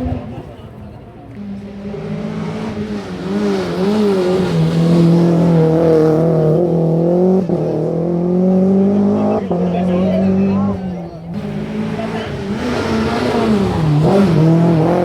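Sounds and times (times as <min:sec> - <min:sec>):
rally car engine: 0:00.0 - 0:15.0.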